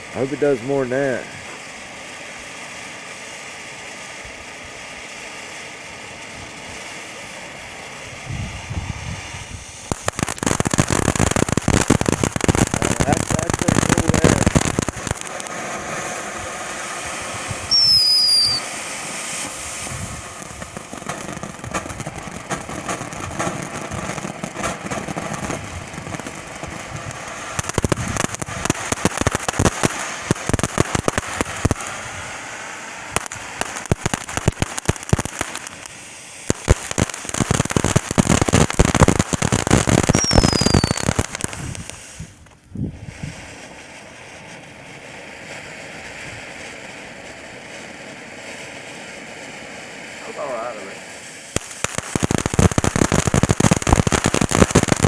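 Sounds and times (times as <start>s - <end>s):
firework burst: 0.0s - 55.0s
firework falling whistle: 0.0s - 55.0s
fireworks crackling pops: 0.0s - 55.0s.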